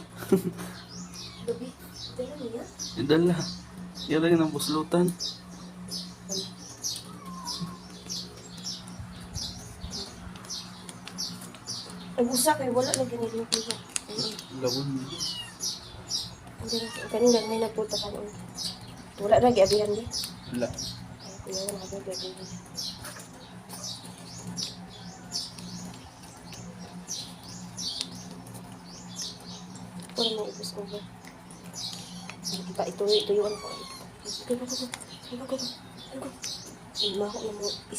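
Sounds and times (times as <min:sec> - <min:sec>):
small bird chirping: 0:00.0 - 0:37.9
steady low hum: 0:00.0 - 0:37.9.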